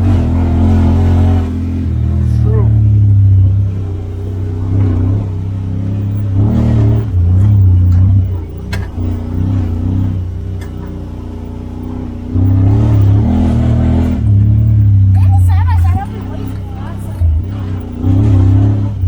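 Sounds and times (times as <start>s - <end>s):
utility vehicle engine revving: 0.0s - 19.0s.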